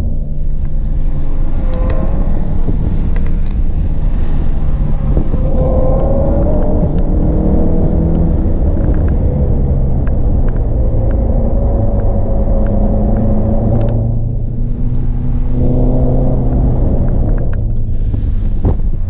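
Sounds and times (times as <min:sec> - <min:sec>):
car engine pulling under load: 0:00.0 - 0:19.0
tyre and road noise: 0:00.0 - 0:19.0.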